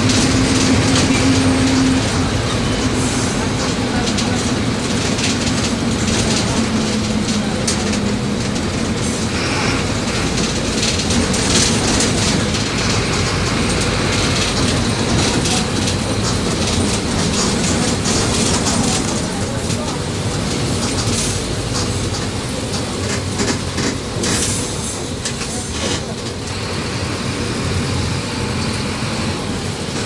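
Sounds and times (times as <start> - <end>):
bus diesel engine running: 0.0 - 30.0.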